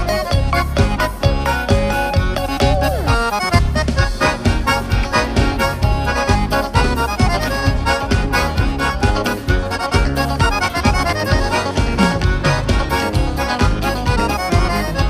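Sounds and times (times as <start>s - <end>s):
accordion dance music: 0.0s - 15.0s
bass and drum beat: 0.0s - 15.0s.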